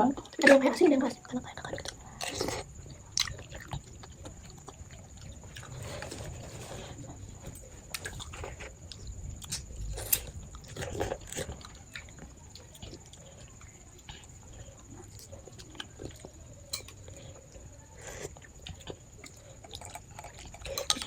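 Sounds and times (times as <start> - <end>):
person chewing: 1.7 - 21.0.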